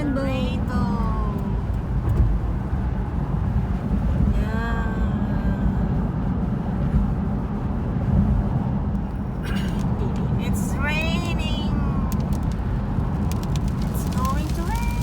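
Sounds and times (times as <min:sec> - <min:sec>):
car road rumble inside cabin: 0:00.0 - 0:15.0.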